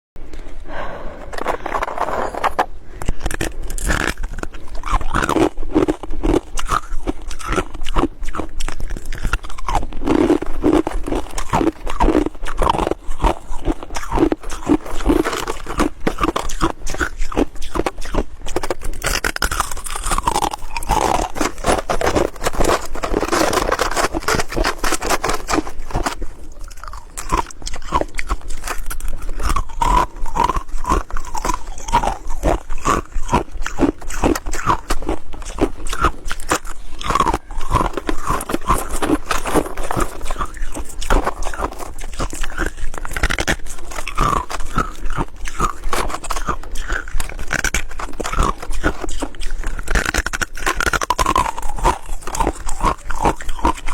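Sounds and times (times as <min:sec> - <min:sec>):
crunching and chewing ice: 0:00.2 - 0:53.9.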